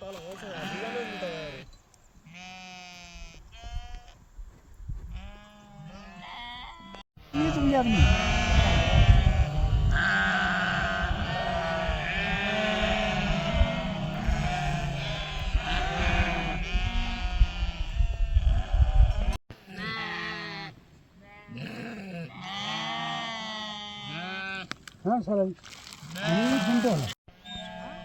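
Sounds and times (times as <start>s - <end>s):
flock of sheep bleating: 0.0s - 1.7s, 2.3s - 4.2s, 5.2s - 24.7s, 26.1s - 28.0s.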